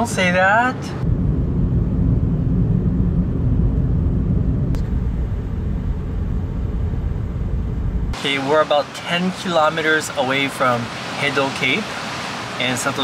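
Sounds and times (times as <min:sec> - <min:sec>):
car driving rumble: 0:00.0 - 0:12.7.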